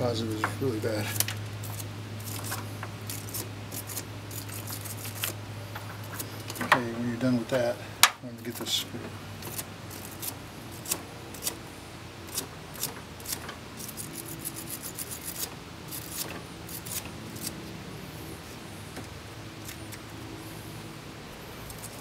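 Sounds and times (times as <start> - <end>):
wire brush scrubbing metal: 0.0 - 7.8, 8.4 - 19.0, 21.4 - 22.0.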